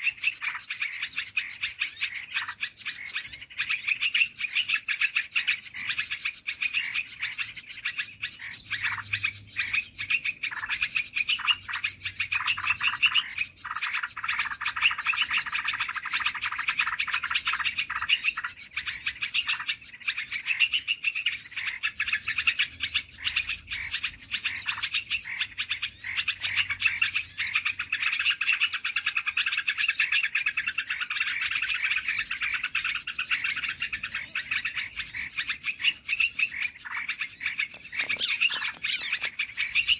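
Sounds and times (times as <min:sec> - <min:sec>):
rapid high bird chirps: 0:00.0 - 0:39.9.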